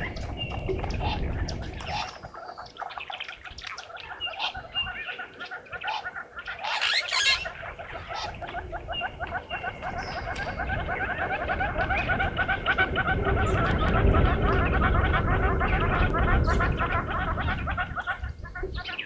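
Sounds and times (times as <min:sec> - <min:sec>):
wild dogs chirping: 0:00.0 - 0:19.0.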